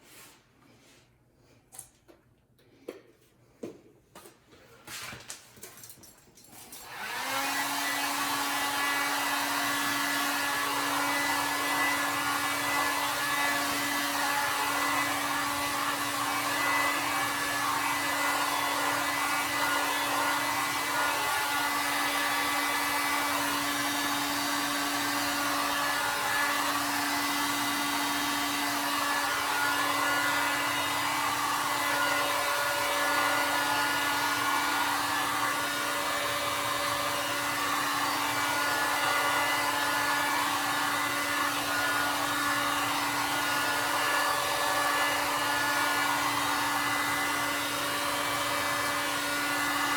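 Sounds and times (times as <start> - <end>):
hot-air blower running: 6.6 - 49.9.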